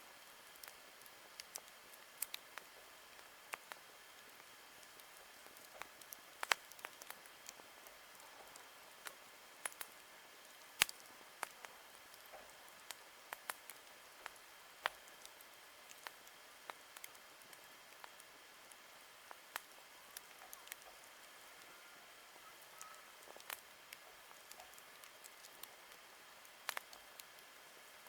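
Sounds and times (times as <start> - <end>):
faint steady hiss: 0.0 - 28.0
wood campfire crackling: 0.0 - 28.0.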